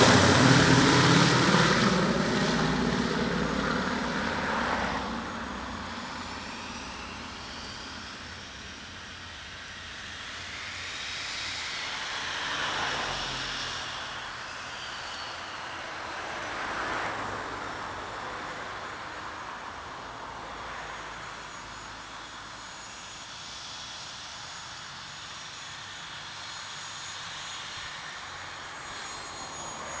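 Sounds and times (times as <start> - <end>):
propeller plane engines droning: 0.0 - 30.0.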